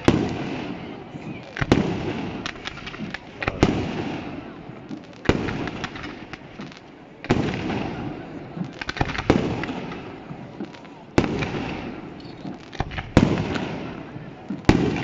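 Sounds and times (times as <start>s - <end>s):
firework crackles: 0.0s - 15.0s
firework shells exploding: 0.0s - 15.0s.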